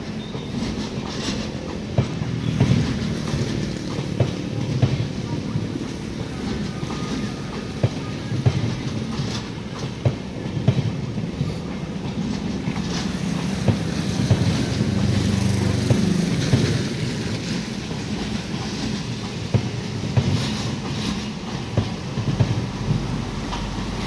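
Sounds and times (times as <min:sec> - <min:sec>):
train coaches rumbling on rails: 0:00.0 - 0:24.0
wheels clicking over rail joints: 0:00.0 - 0:24.0.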